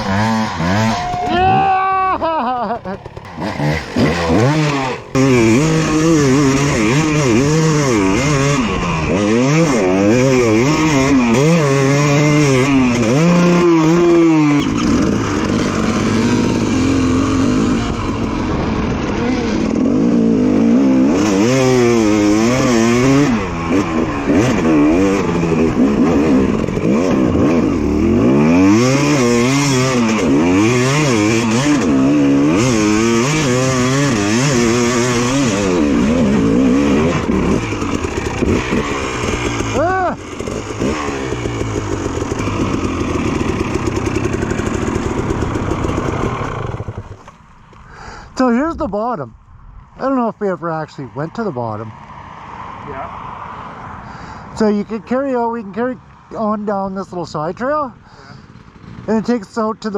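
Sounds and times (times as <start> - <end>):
dirt bike engine revving: 0.0 - 53.3.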